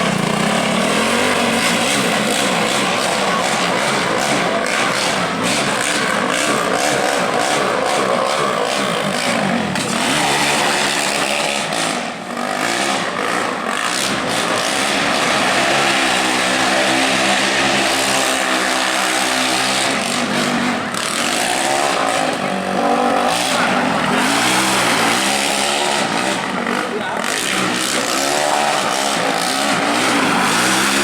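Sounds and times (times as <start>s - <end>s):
race car engine revving: 0.0s - 31.0s.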